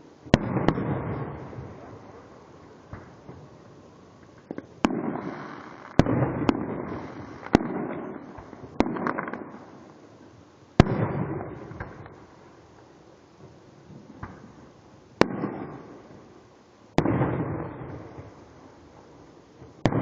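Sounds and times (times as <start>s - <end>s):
fireworks bangs: 0.0s - 9.8s, 10.8s - 12.3s, 13.4s - 16.3s, 16.9s - 20.0s
fireworks crackle: 0.0s - 20.0s.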